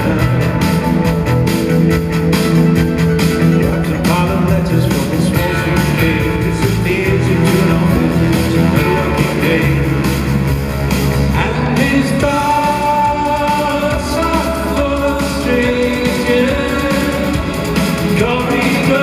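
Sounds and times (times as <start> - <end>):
man singing: 0.0 - 1.2, 3.4 - 10.4, 11.2 - 19.0
live synth-pop band: 0.0 - 19.0.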